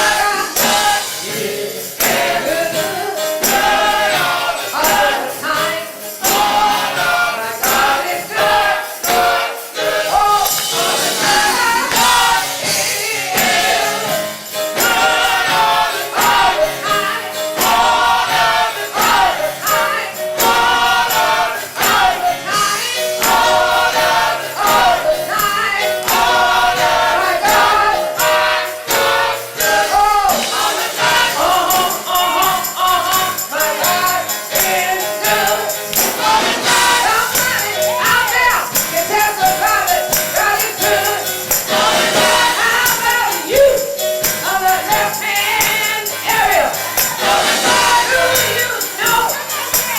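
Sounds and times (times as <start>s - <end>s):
band playing: 0.0s - 49.9s
choir singing gospel: 0.0s - 49.9s
shaken tambourine: 0.0s - 49.9s.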